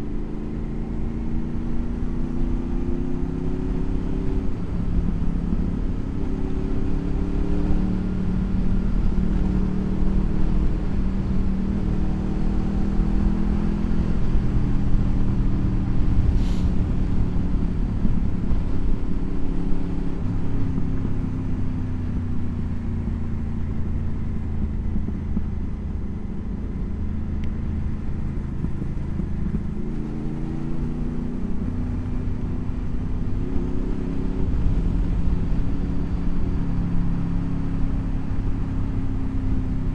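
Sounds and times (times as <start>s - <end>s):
motorcycle engine running: 0.0s - 39.9s
wind noise rumble: 1.5s - 39.9s.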